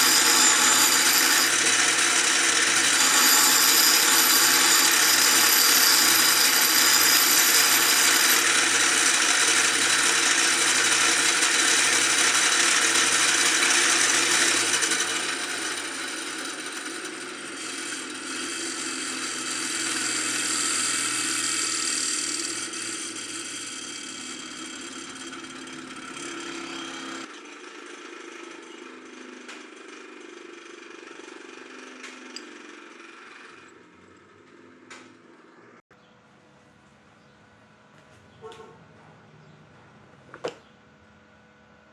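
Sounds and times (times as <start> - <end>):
power tool grinding metal: 0.0 - 33.8.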